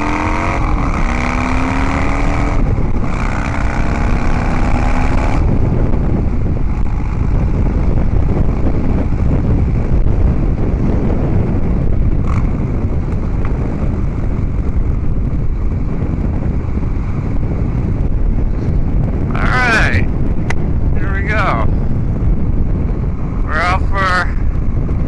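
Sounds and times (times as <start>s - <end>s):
motorcycle engine rumble: 0.0s - 25.0s
wind buffeting microphone: 0.0s - 25.0s.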